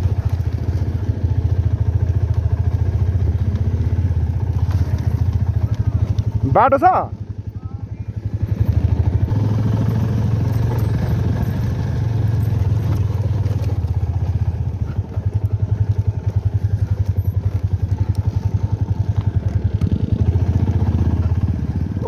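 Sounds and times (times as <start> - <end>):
motorcycle engine chugging: 0.0 - 22.0.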